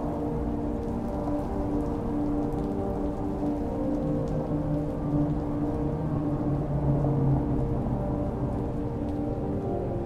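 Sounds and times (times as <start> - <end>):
muffled reverberant synth song: 0.0 - 10.0
steady rain: 0.0 - 10.0.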